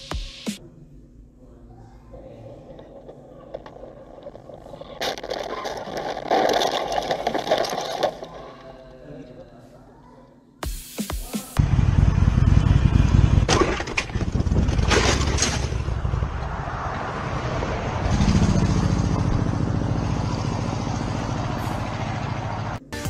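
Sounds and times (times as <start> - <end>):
motorcycle engine rumbling: 1.8 - 9.3, 11.6 - 22.9.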